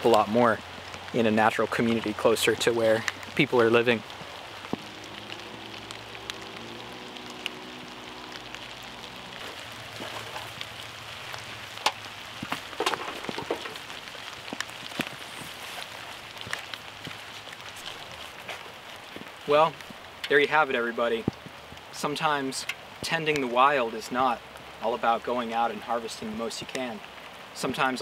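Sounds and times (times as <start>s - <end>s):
footsteps through wet undergrowth: 0.0s - 23.4s
steady rain falling: 0.0s - 28.0s.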